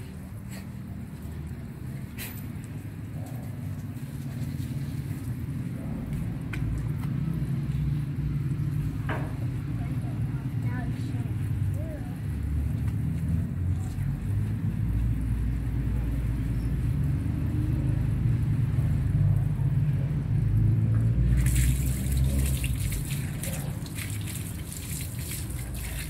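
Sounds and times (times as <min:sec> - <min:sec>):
hose water splashing on dog: 0:00.0 - 0:26.0.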